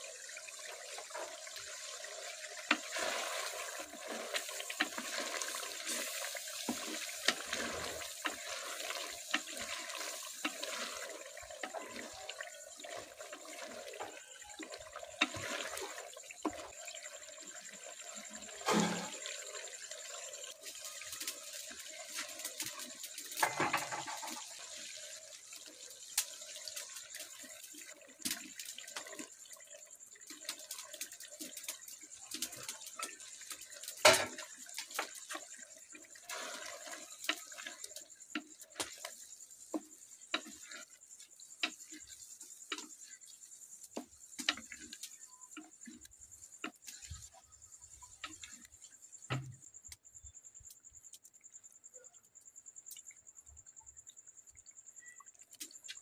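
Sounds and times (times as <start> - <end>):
curry bubbling and sizzling: 0.0 - 56.0.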